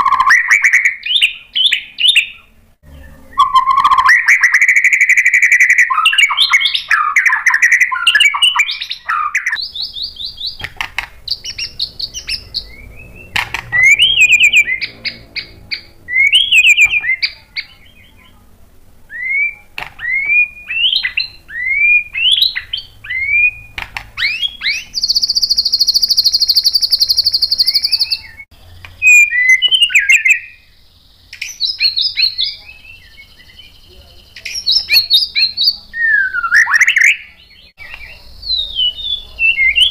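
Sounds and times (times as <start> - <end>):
bird singing whistled song: 0.0 - 10.7, 11.3 - 18.4, 19.1 - 39.9.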